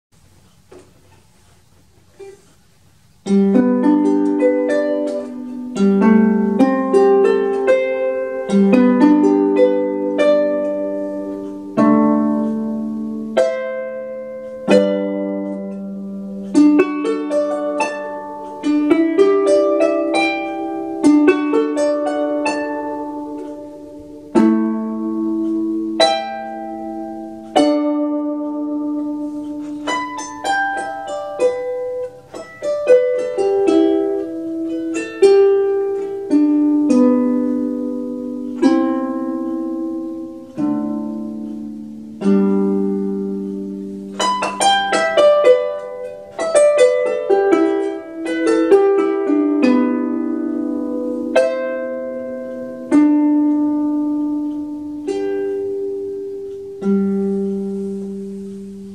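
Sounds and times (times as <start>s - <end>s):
harp playing slow tune: 0.2s - 58.9s.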